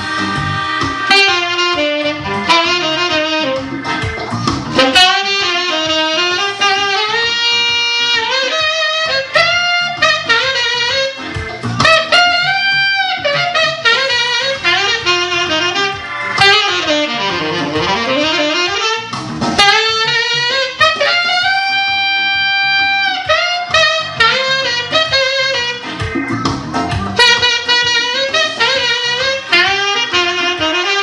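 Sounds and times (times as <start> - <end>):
backing track with drums: 0.0 - 31.0
saxophone playing jazzy melody: 0.0 - 31.0.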